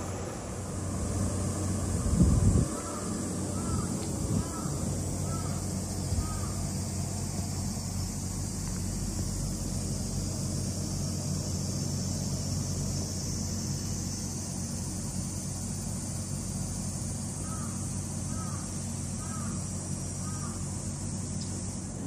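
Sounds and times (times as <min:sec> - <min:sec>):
air conditioner hum and hiss: 0:00.0 - 0:22.0.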